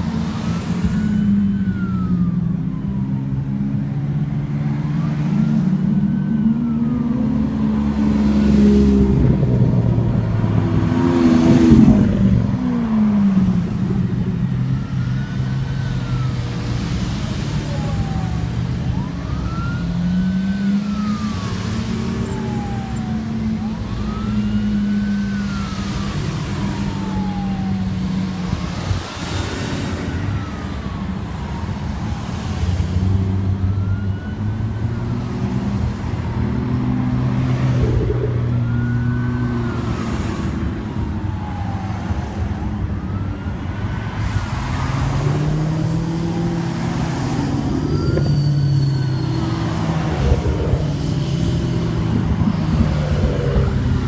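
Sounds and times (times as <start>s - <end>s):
car engines in traffic: 0.0s - 54.0s
emergency siren wailing: 0.0s - 54.0s.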